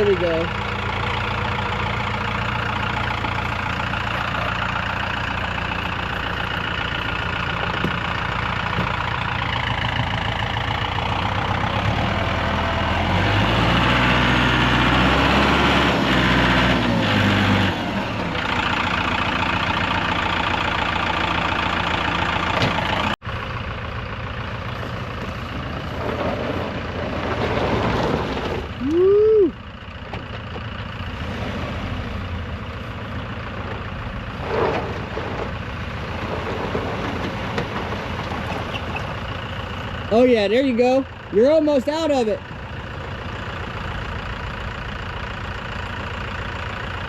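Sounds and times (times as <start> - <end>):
heavy vehicle engine revving: 0.0 - 40.4.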